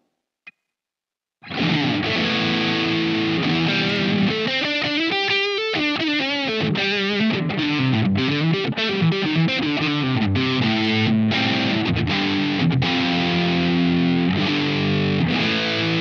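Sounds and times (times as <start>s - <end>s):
overdriven electric guitar: 1.4s - 16.0s.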